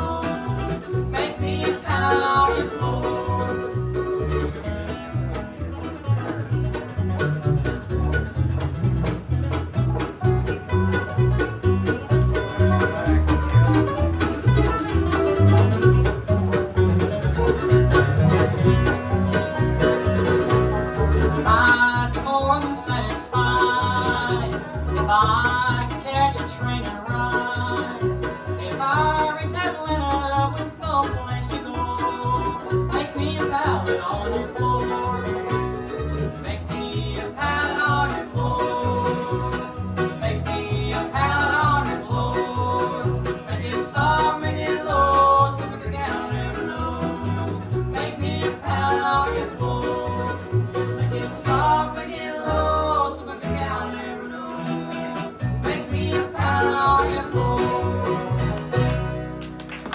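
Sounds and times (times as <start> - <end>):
acoustic string band playing blues: 0.0 - 59.9.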